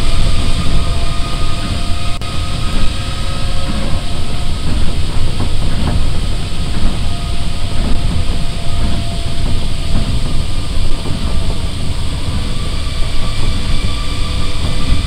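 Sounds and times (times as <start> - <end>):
low rumble of tyres on track: 0.0 - 15.0.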